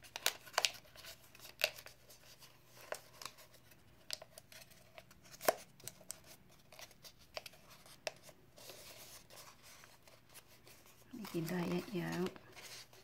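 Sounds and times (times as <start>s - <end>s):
paper crackling: 0.0s - 13.0s.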